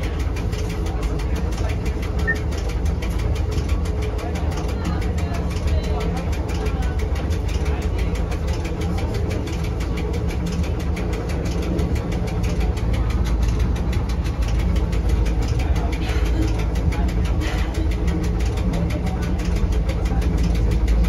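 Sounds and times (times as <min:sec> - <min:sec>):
fast even ticking: 0:00.0 - 0:21.0
train low rumble: 0:00.0 - 0:21.0.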